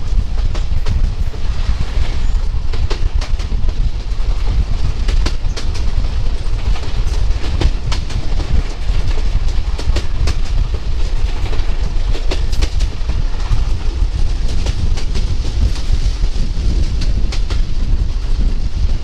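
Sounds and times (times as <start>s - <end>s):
train rumbling along track: 0.0s - 19.0s
wheels clacking over rails: 0.0s - 19.0s.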